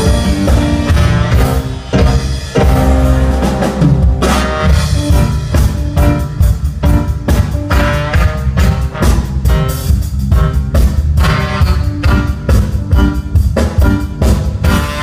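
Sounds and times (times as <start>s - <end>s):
bass: 0.0s - 15.0s
drum kit beat: 0.0s - 15.0s
guitar: 0.0s - 15.0s.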